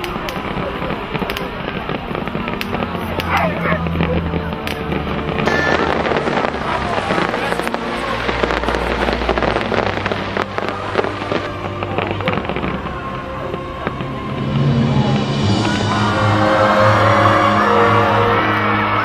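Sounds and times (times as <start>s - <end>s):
fireworks crackling: 0.0s - 19.0s
music playing: 0.0s - 19.0s.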